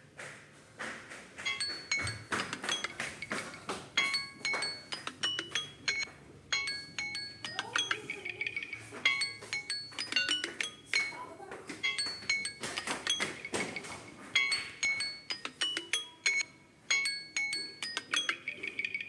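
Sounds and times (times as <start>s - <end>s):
chiming alarm ringtone: 1.4s - 19.0s.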